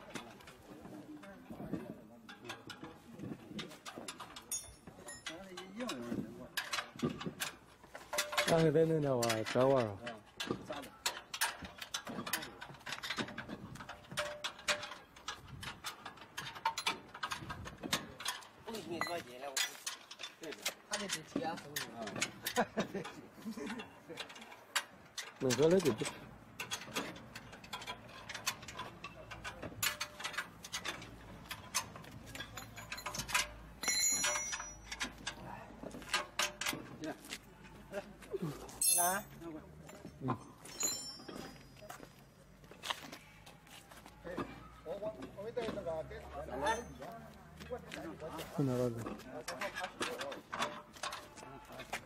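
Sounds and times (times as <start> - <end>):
hand tools clicking on metal: 2.2 - 43.1, 47.8 - 52.0.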